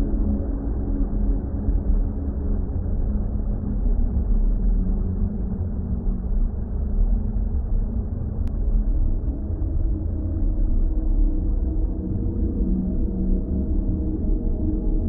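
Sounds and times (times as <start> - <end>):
faint held drone tones: 0.0 - 15.0.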